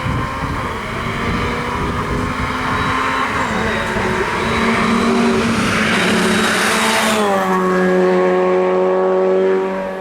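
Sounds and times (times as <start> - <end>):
race car engine running hard: 0.0 - 10.0.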